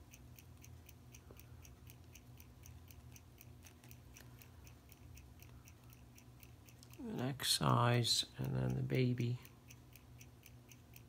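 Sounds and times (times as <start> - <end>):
low electrical hum: 0.0 - 11.0
mechanical watch ticking: 0.0 - 11.0.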